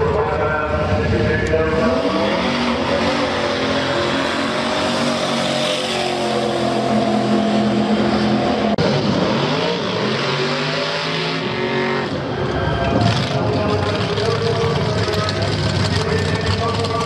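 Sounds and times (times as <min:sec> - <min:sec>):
car engine at full throttle: 0:00.0 - 0:17.0.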